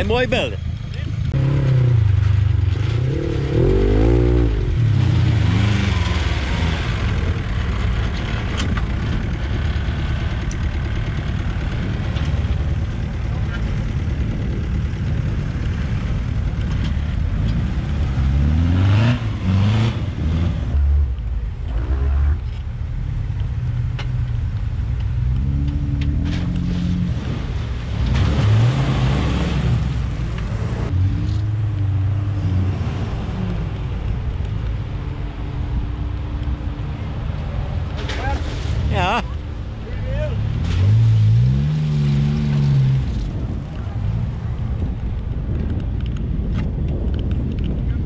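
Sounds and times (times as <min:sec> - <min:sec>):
off-road engines revving: 0:00.0 - 0:48.0.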